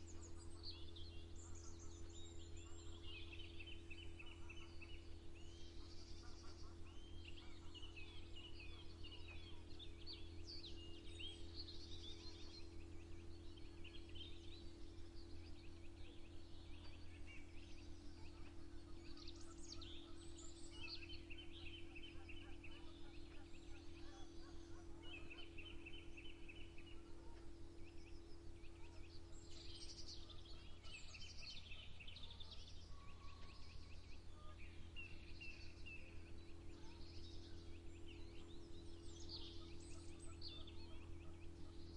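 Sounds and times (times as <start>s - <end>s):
songbirds chirping and trilling: 0.0s - 41.9s
steady low hum: 0.0s - 41.9s.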